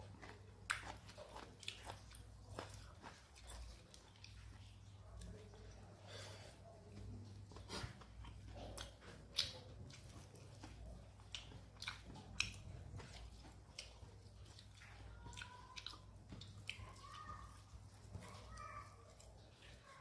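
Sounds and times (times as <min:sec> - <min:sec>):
wet chewing mouth clicks: 0:00.0 - 0:05.9, 0:06.9 - 0:20.0.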